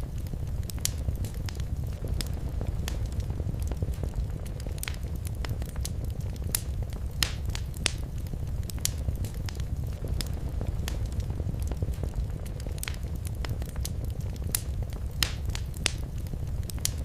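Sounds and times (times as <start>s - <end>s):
wood fire burning in a fireplace: 0.0s - 17.0s.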